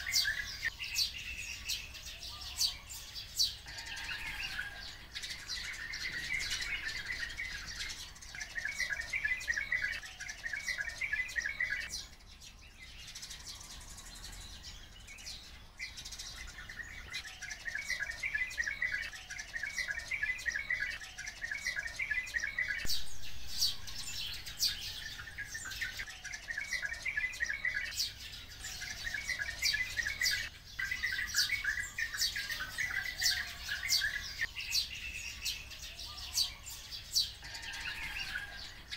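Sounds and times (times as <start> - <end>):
high bird chirps: 0.0 - 12.2, 12.9 - 38.9
songbirds chattering trills: 0.0 - 38.9.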